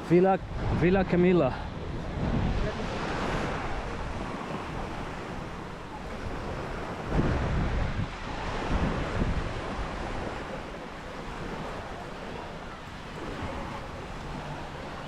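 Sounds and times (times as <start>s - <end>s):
small waves washing onto sand: 0.0s - 15.0s
wind buffeting microphone: 0.0s - 15.0s.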